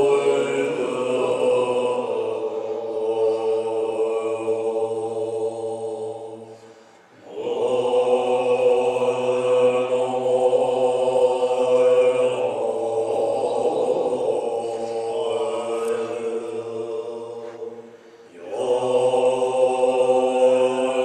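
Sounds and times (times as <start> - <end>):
monks throat-singing chant: 0.0 - 21.0.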